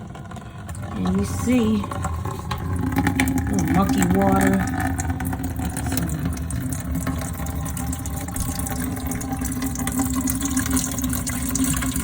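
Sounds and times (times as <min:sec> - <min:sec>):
water running into a container: 0:00.0 - 0:12.0.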